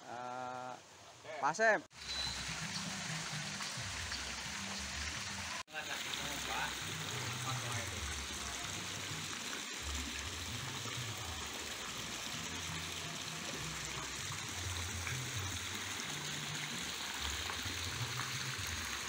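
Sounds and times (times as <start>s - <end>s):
water splashing into a pond: 1.9s - 19.0s.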